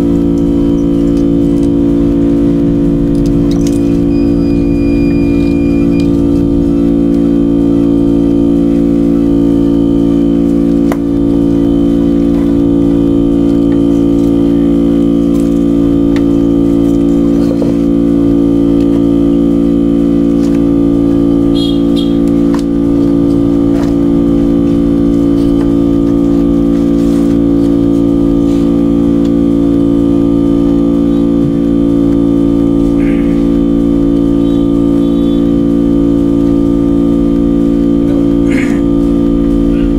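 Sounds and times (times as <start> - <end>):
loud electrical hum: 0.0 - 39.9.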